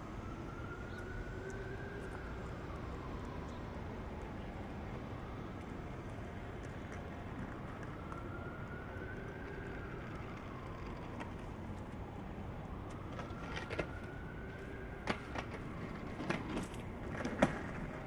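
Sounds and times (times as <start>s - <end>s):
rumble of cars and trucks: 0.0s - 18.0s.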